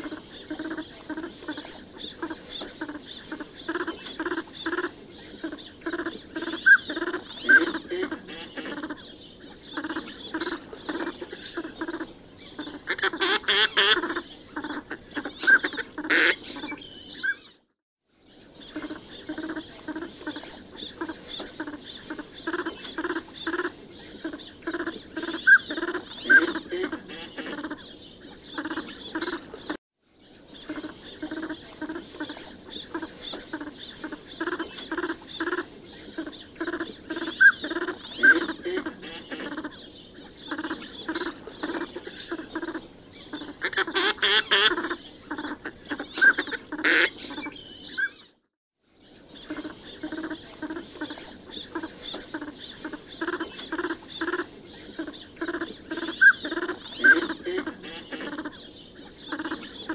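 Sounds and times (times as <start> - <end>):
ducks calling: 0.0 - 17.6, 18.7 - 27.9, 28.5 - 29.8, 30.6 - 48.4, 49.3 - 59.9.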